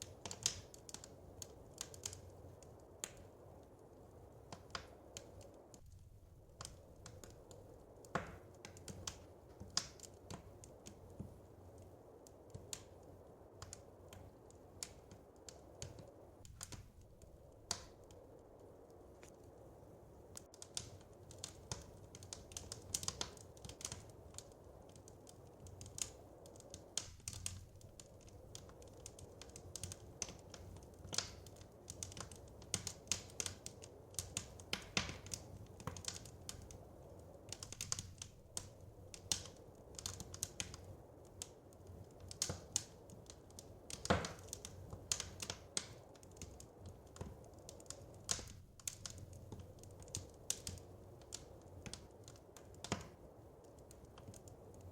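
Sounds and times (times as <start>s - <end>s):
low rumble of flames: 0.0s - 54.9s
wood fire crackling: 0.0s - 54.9s.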